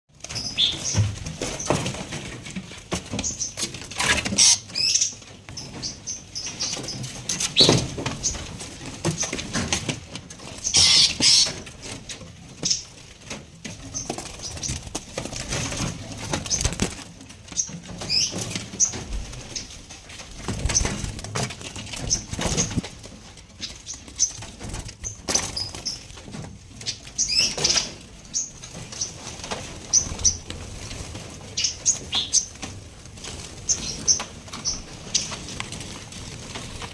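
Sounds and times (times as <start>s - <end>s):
songbirds chirping: 0.1s - 36.9s
wings fluttering: 0.1s - 36.9s.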